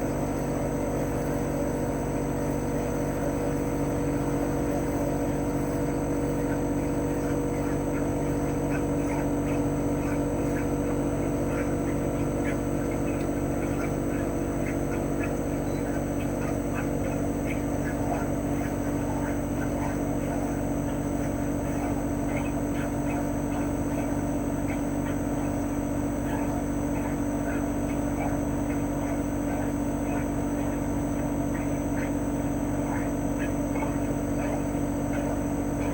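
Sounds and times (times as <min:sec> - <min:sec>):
compressor humming: 0:00.0 - 0:35.9
fan rushing: 0:00.0 - 0:35.9.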